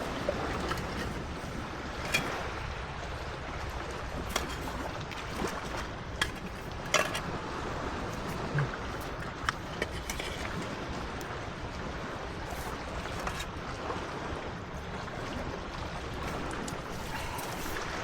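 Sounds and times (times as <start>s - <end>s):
sea surf: 0.0s - 18.0s.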